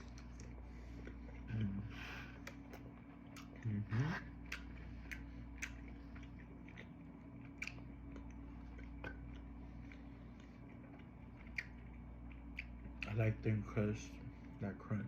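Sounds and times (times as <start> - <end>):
person chewing crunchy pizza: 0.0 - 14.6
steady low hum: 0.0 - 15.0.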